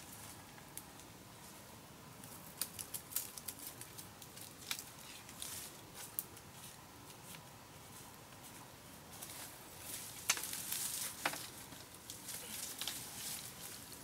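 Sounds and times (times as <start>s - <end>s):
dry leaves and twigs crackling: 0.0s - 14.0s.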